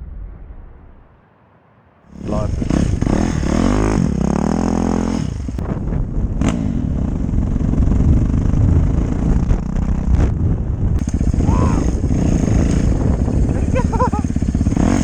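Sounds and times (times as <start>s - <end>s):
dirt bike engine revving: 2.1s - 10.4s, 11.0s - 15.0s.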